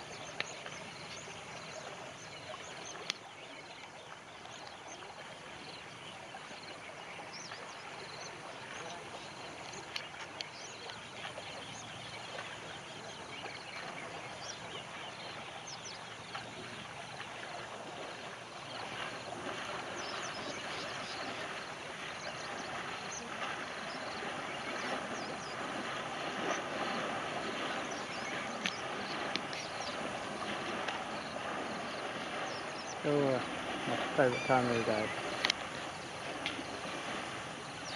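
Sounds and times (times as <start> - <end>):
elephant splashing through water: 0.0 - 37.9.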